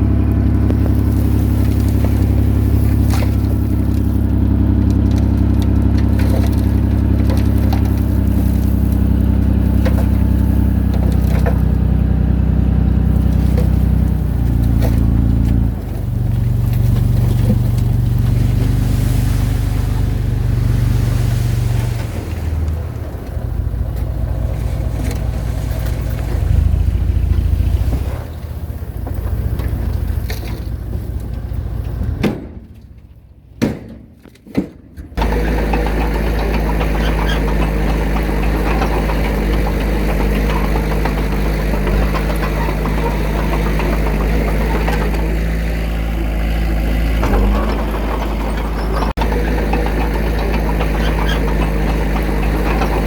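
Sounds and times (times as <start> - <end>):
heavy diesel engine running: 0.0 - 33.6, 35.2 - 53.0.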